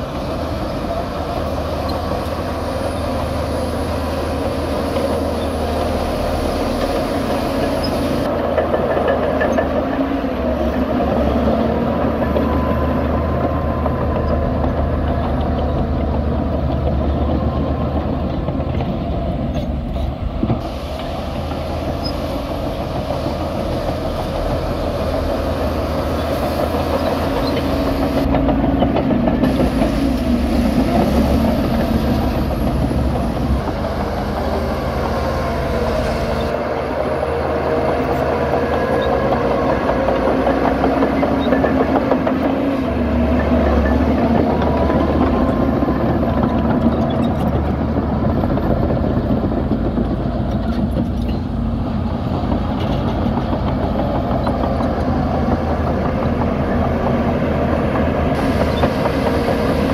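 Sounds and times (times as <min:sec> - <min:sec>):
bulldozer diesel engine: 0:00.0 - 0:59.9
steel tracks clattering: 0:00.0 - 0:59.9.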